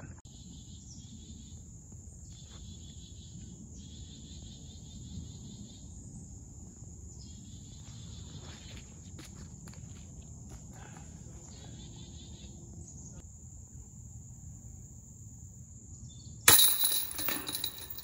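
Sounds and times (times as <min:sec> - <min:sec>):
insects pulsing chorus: 0:00.3 - 0:16.4
insects high drone: 0:00.3 - 0:16.5.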